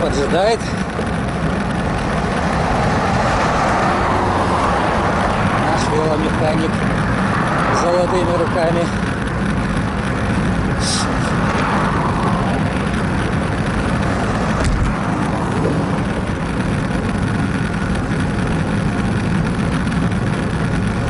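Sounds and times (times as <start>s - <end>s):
background traffic: 0.0s - 21.0s
tyres on road: 0.0s - 21.0s
wind rush: 0.0s - 21.0s.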